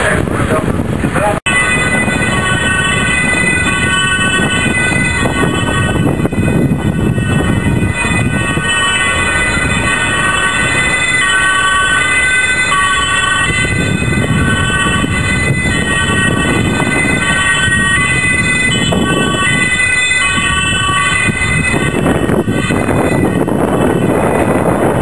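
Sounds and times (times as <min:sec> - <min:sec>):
emergency vehicle sirens: 0:01.5 - 0:25.0.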